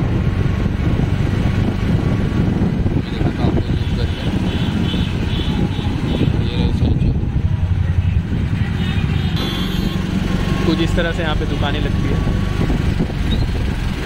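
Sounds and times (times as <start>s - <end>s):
road noise: 0.0s - 14.0s
vehicle engine rumble: 0.0s - 14.0s.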